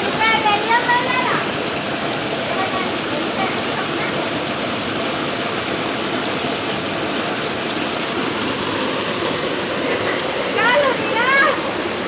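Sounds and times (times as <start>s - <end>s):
river water cascading over rocks: 0.0s - 12.0s.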